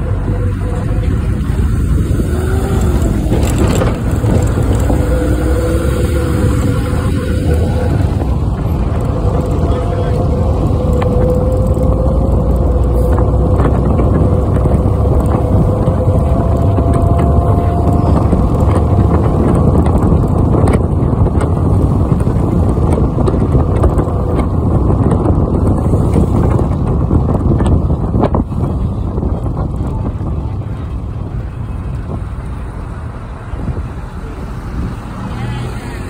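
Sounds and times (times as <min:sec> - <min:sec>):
wind and road noise in car: 0:00.0 - 0:36.0.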